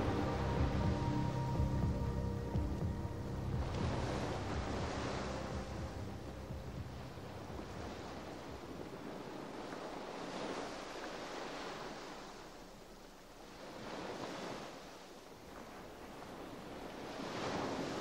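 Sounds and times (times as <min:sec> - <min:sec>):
sea waves washing in: 0:00.0 - 0:18.0.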